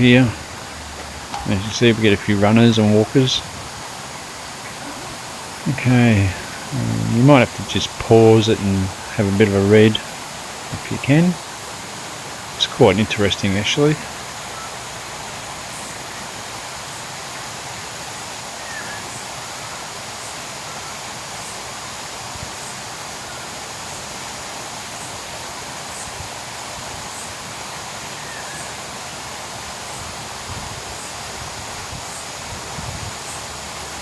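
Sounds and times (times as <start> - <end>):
stream running water: 0.0 - 34.0.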